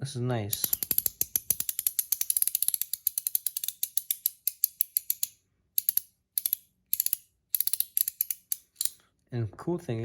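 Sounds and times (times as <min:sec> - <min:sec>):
fidget coin ratchet clicks: 0:00.5 - 0:09.0.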